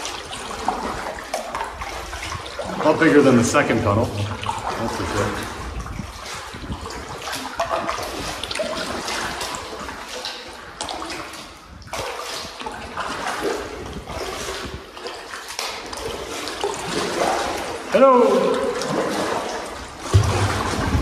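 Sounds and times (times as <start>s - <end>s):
paddle splashing water: 0.0s - 21.0s.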